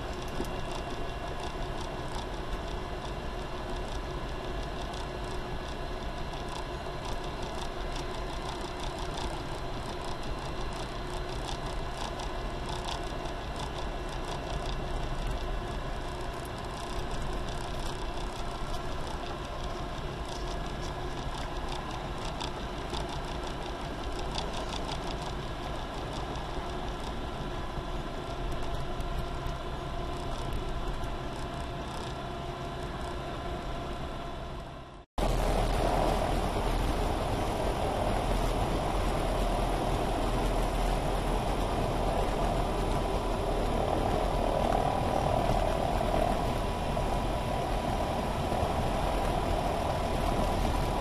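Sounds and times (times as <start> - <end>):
faint irregular crackle: 0.0 - 33.4, 35.2 - 51.0
aircraft engine and propeller droning: 0.0 - 51.0.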